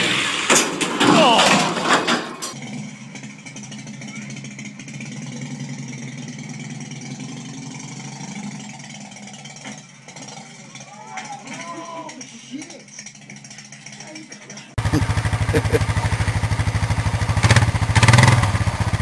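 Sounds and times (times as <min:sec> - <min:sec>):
motorcycle engine idling: 0:02.5 - 0:19.0.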